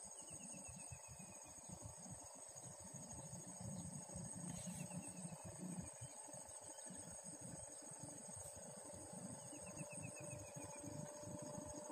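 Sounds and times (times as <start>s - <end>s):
insect chorus drone: 0.0s - 11.9s.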